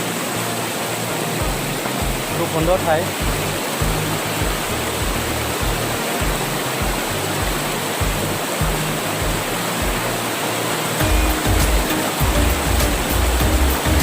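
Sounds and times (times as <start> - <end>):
river water flowing: 0.0 - 14.0
background music with bass beat: 1.4 - 10.3, 11.0 - 14.0.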